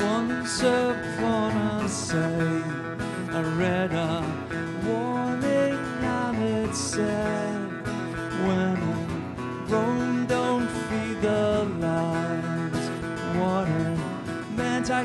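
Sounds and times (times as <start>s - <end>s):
acoustic guitars strummed: 0.0s - 15.0s
electric guitar: 0.0s - 15.0s
man singing: 0.0s - 15.0s.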